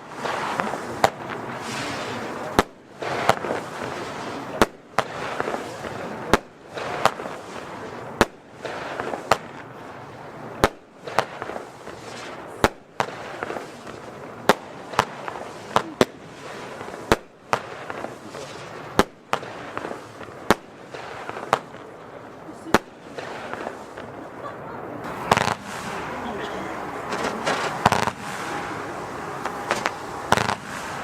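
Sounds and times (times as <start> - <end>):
crackling hiss: 0.0 - 31.0
firework bangs: 0.0 - 31.0.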